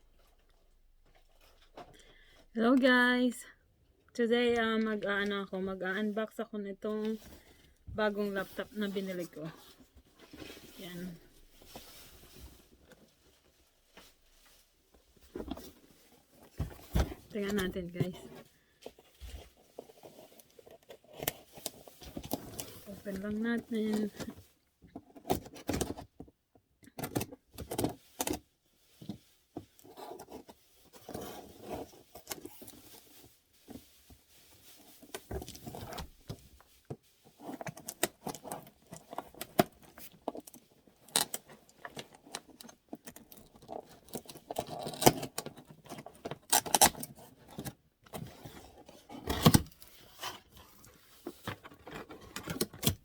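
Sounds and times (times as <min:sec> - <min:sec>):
packaging rustling and scraping: 0:00.0 - 0:02.2, 0:05.0 - 0:26.3, 0:27.0 - 0:53.0.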